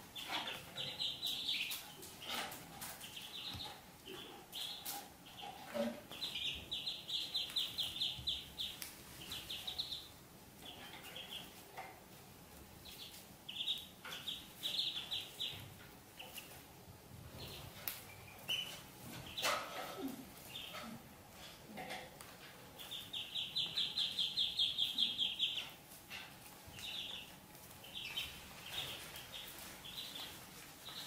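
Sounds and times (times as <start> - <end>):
ducklings peeping: 0.0 - 31.0.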